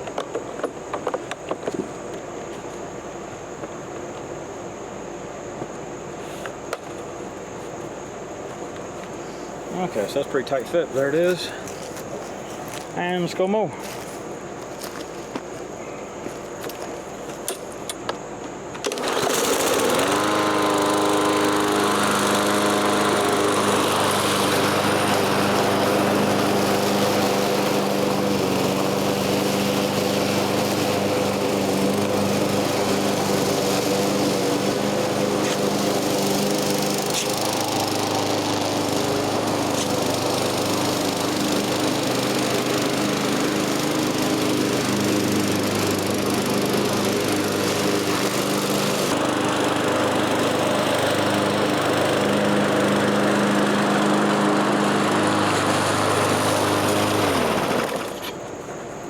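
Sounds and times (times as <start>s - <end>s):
lawn mower engine starting and running: 0.0s - 59.0s.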